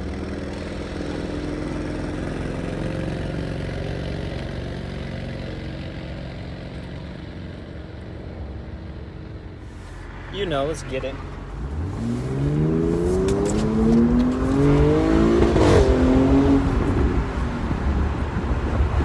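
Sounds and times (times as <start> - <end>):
car engine running at low revs: 0.0 - 19.0.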